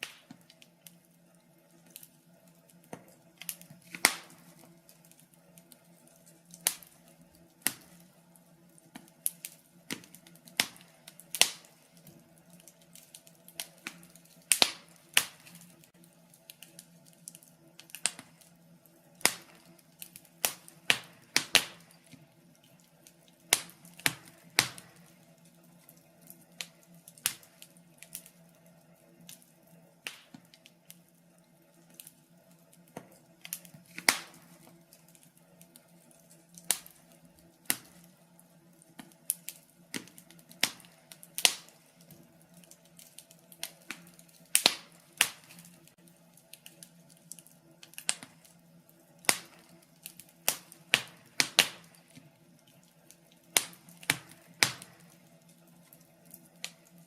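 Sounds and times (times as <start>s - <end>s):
logs crackling in fireplace: 0.0s - 57.0s.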